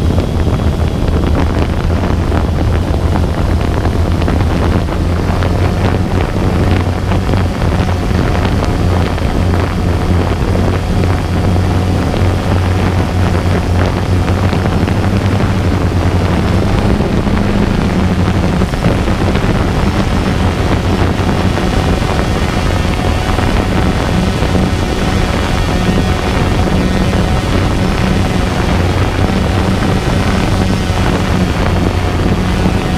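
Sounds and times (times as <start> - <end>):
drone motors and propellers humming: 0.0 - 32.9
wind buffeting microphone: 0.0 - 32.9.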